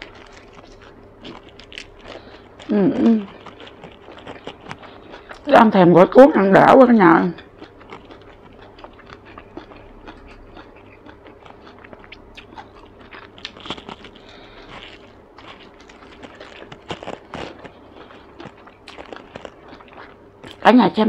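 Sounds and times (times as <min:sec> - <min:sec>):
wet mouth chewing: 0:00.0 - 0:05.5, 0:07.3 - 0:20.6.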